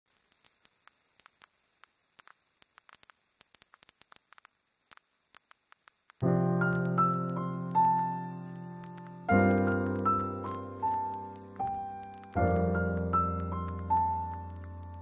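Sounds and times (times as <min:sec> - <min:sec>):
crackling static: 0:00.0 - 0:15.0.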